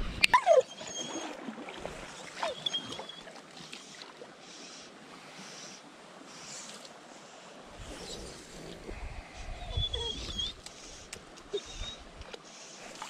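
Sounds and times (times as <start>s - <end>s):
creek water rushing: 0.6s - 13.0s.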